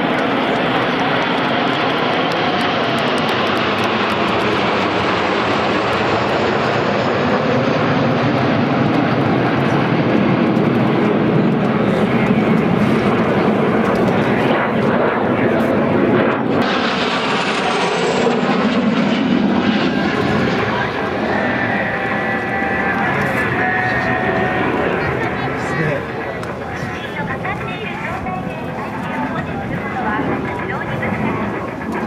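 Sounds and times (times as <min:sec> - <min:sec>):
jet engines passing overhead: 0:00.0 - 0:32.0.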